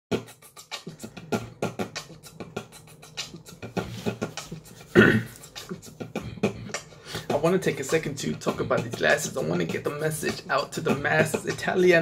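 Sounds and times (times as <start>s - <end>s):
man beatboxing: 0.1s - 12.0s.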